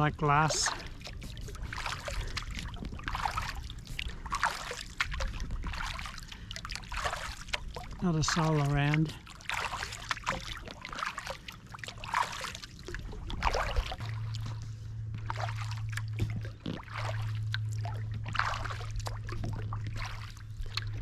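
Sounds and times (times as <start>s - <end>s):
low steady hum: 0.0s - 21.0s
paddle splashing in water: 0.0s - 21.0s.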